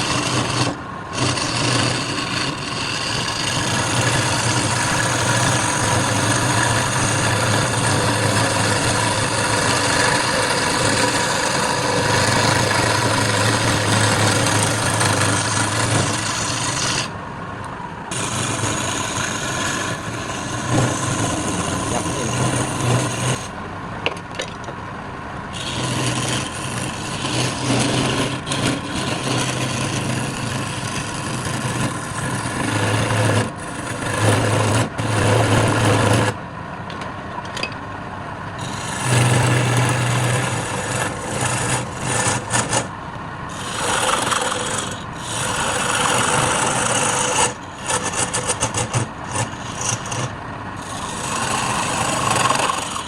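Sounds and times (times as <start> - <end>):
tool scraping spinning wood: 0.0 - 17.2, 18.1 - 24.7, 25.5 - 36.4, 38.6 - 53.0
lathe motor hum: 0.0 - 23.7, 25.5 - 36.4, 38.6 - 53.0.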